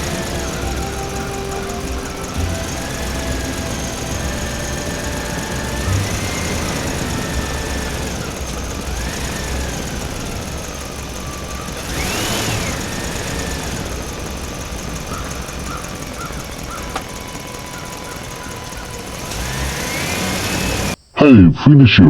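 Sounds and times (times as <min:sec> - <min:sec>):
small motor low rumble: 0:00.0 - 0:21.0
rising and falling whine: 0:00.0 - 0:21.1.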